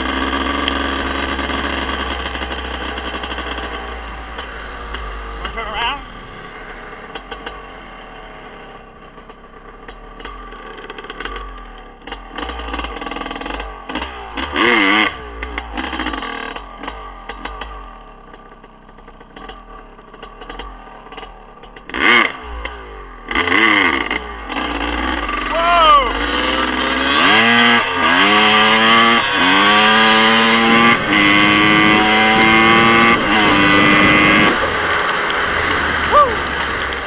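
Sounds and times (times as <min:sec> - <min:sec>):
dirt bike engines revving: 0:00.0 - 0:18.5, 0:19.2 - 0:37.0.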